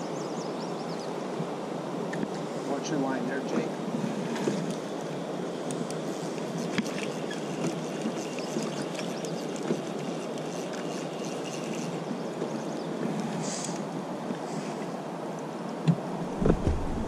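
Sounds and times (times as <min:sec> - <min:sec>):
river current rushing: 0:01.1 - 0:17.0.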